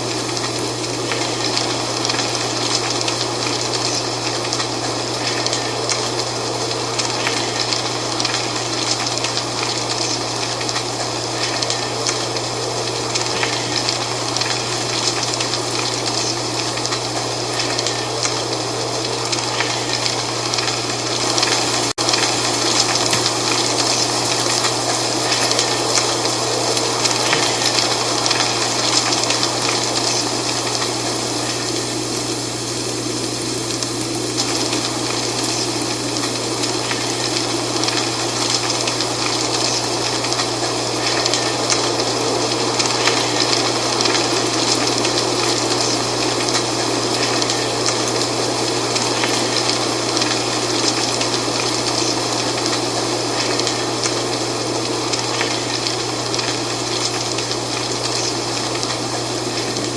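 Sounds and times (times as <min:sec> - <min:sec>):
dry leaves rustling in wind: 0:00.0 - 0:59.9.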